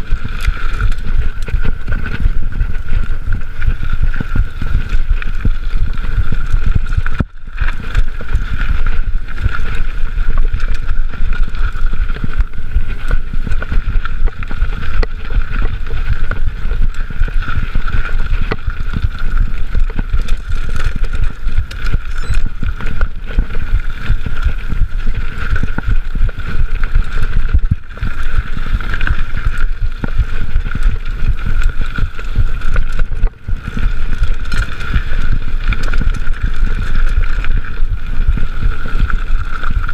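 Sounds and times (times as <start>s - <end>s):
bike tyres rumbling on dirt trail: 0.0s - 39.9s
wind buffeting microphone: 0.0s - 39.9s.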